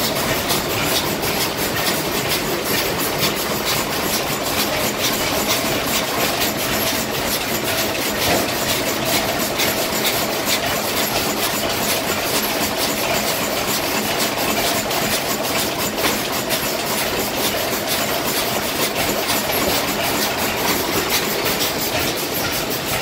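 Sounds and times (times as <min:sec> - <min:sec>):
stationary gas engines clattering: 0:00.0 - 0:23.0.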